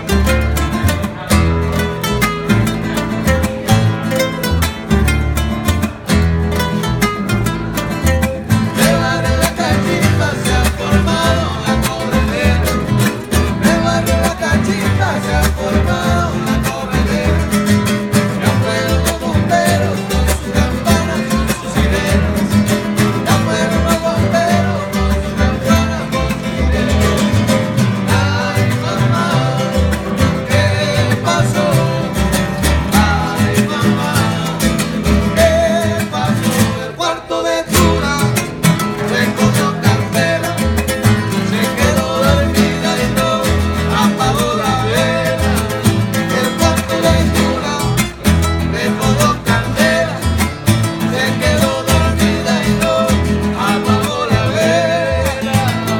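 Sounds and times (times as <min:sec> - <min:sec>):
acoustic guitar strumming: 0:00.0 - 0:55.9
upright bass plucked: 0:00.0 - 0:55.9
men singing: 0:07.4 - 0:55.9.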